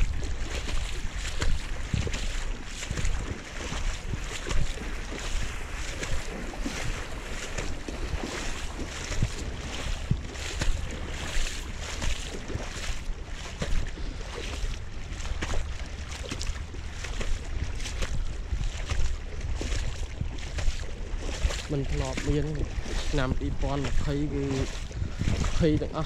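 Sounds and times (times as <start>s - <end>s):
wading splashes in water: 0.0s - 26.0s
wind rumble on microphone: 0.0s - 26.0s.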